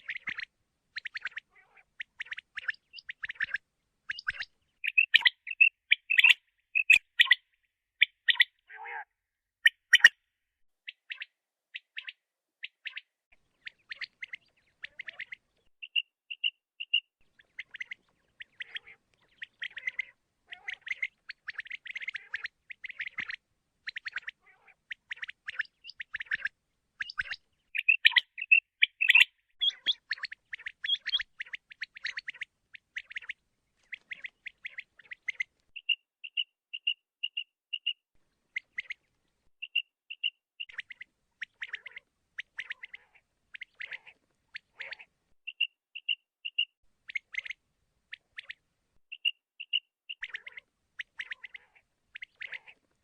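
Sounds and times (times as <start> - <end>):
quail chirping calls: 0.0 - 52.9.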